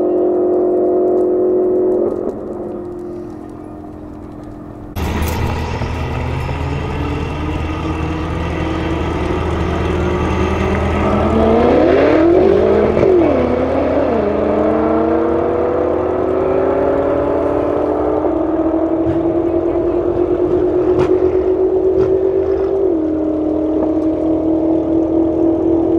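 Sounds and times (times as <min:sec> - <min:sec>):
cars accelerating at full throttle: 0:00.0 - 0:25.9.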